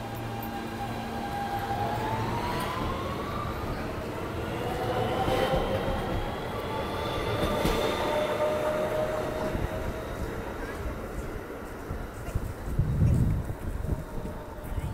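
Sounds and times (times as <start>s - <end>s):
subway train motors whining: 0.0s - 14.9s.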